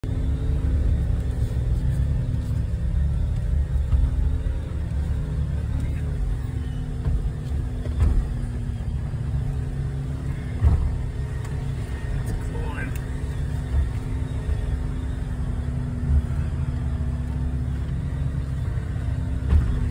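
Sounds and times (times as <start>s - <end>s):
vehicle engine droning: 0.0s - 19.9s.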